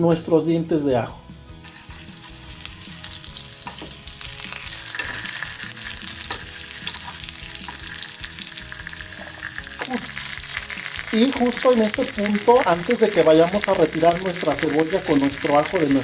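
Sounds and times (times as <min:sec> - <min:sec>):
onions sizzling in hot oil: 0:01.6 - 0:16.0.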